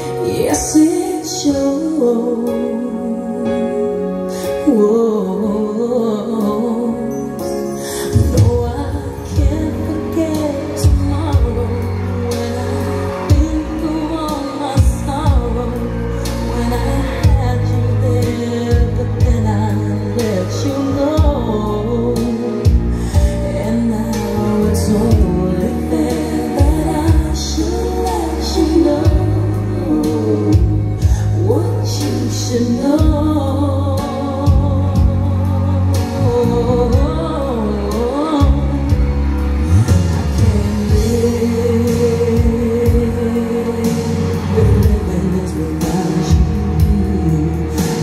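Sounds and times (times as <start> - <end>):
song with singing voice: 0.0 - 48.0
strong bass line and beat: 8.2 - 48.0.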